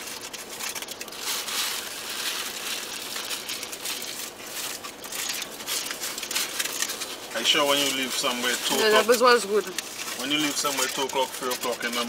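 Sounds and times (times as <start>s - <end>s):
paper food wrapping crinkling: 0.0s - 12.0s.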